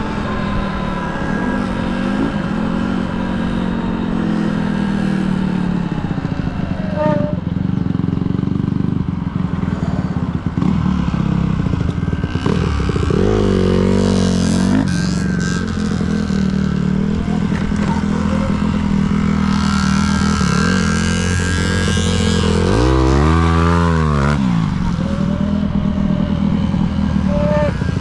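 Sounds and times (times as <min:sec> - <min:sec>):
small motorcycle engine revving: 0:00.0 - 0:28.0.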